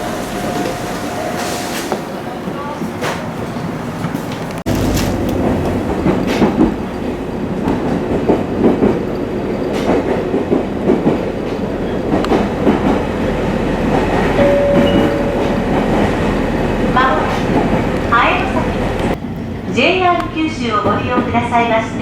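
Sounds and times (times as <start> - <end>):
train rumble: 0.0 - 22.0
train wheels clickety-clack: 0.1 - 22.0.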